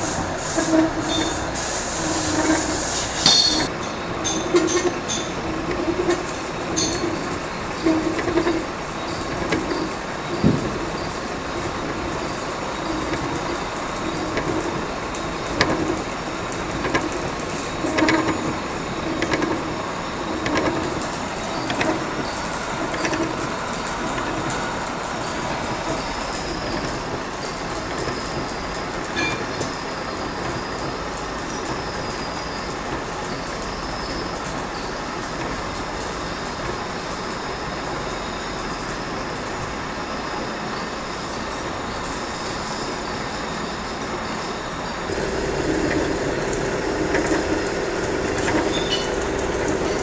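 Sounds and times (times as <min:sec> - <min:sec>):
machine running with knocking: 0:00.0 - 0:39.6, 0:45.1 - 0:50.0.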